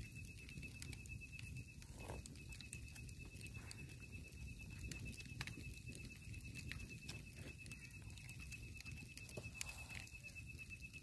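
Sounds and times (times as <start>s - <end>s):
faint clicks and crackles: 0.0s - 11.0s.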